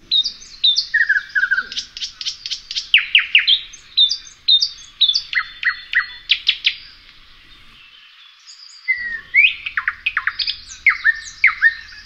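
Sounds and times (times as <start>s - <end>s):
nightingale singing: 0.0s - 12.0s.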